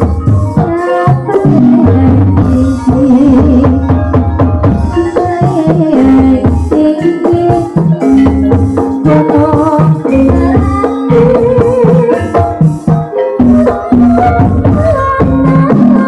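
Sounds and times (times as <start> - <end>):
drums: 0.0 - 16.0
gamelan ensemble playing: 0.0 - 16.0
mallet-struck instruments melody: 0.0 - 16.0.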